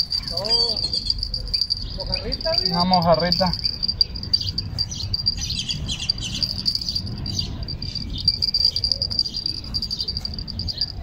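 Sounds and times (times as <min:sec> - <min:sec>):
insects trilling: 0:00.0 - 0:11.0
low rumble: 0:00.0 - 0:11.0.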